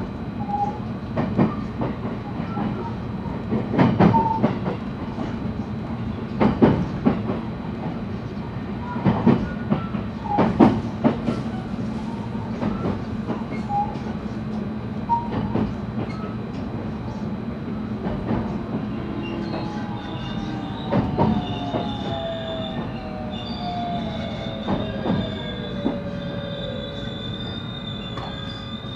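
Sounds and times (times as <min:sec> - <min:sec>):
train running rumble: 0:00.0 - 0:28.9.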